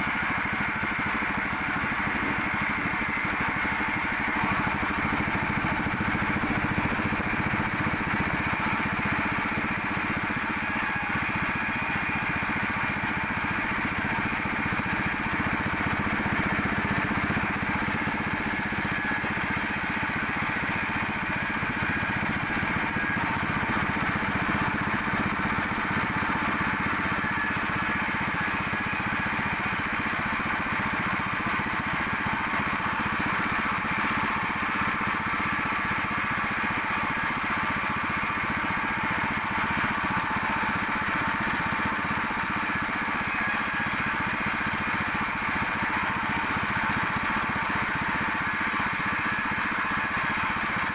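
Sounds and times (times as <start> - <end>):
sawmill machinery drone: 0.0 - 50.9.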